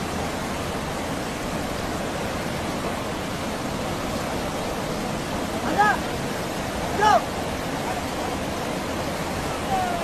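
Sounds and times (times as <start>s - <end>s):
river rapids rushing: 0.0s - 10.0s.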